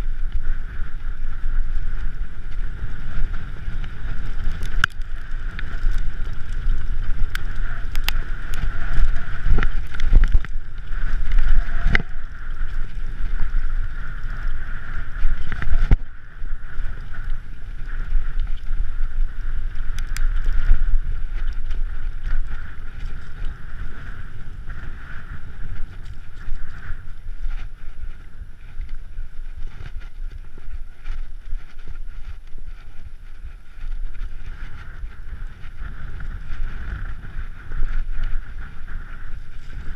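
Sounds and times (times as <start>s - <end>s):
bike tyres rumbling on trail: 0.0s - 39.9s
wind buffeting microphone: 0.0s - 39.9s.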